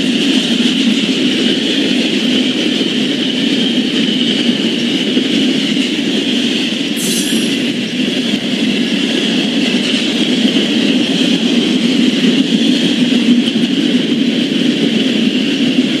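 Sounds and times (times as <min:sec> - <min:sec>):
train wheels rolling on track: 0:00.0 - 0:16.0.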